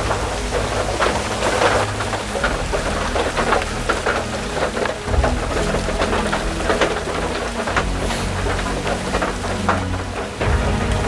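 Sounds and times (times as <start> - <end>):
heavy rain drops striking: 0.0 - 11.0.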